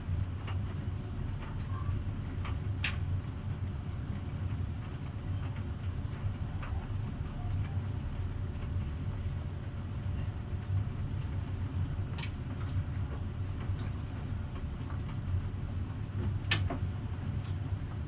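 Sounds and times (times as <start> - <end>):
tumble dryer humming: 0.0 - 18.0.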